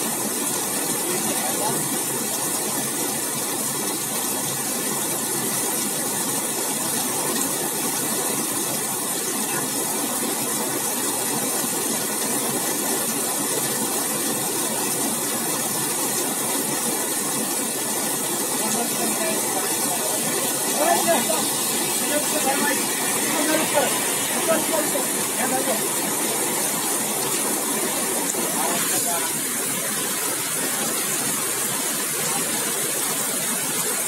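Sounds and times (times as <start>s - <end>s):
heavy rain on pavement: 0.0s - 34.0s.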